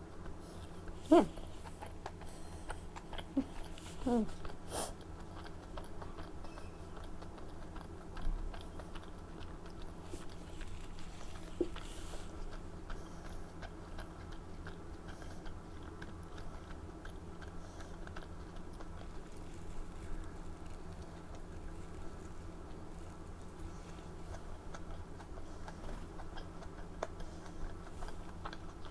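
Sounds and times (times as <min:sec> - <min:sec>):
person chewing food: 0:00.0 - 0:28.9.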